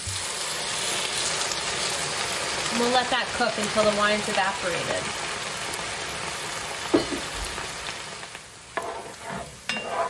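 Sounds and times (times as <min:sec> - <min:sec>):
vegetables sizzling in a skillet: 0:00.0 - 0:10.0.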